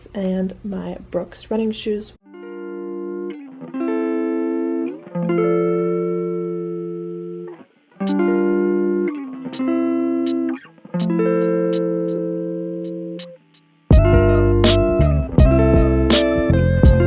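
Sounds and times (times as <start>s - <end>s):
guitar playing ringing chords: 2.2s - 17.0s.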